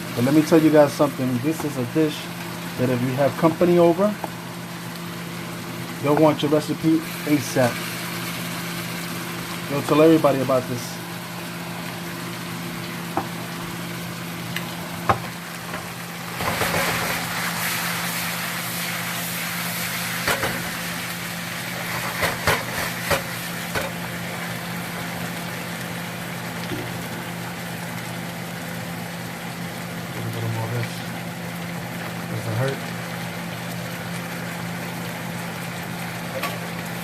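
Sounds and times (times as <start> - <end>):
meat sizzling in a frying pan: 0.0 - 37.0.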